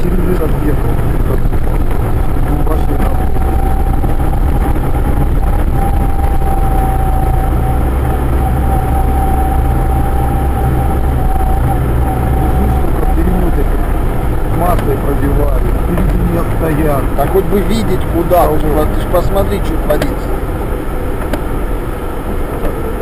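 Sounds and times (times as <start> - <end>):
thin steady whine: 0.0 - 23.0
vehicle engine drone: 0.0 - 23.0.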